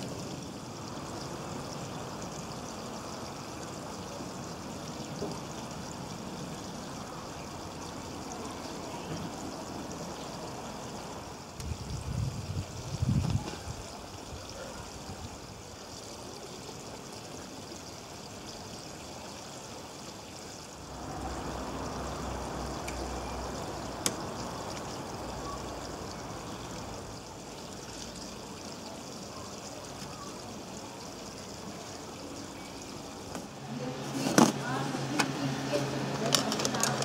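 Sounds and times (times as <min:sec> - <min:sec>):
running water: 0:00.0 - 0:37.0.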